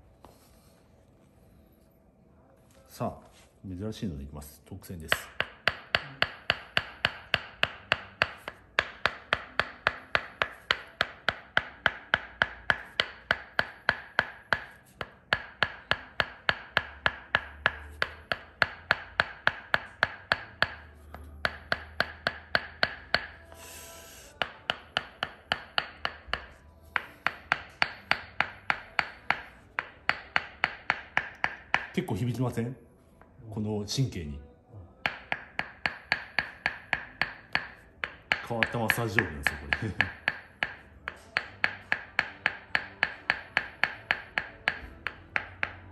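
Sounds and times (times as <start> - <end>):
wooden mallet tapping wooden peg: 5.0 - 32.5, 35.0 - 45.9.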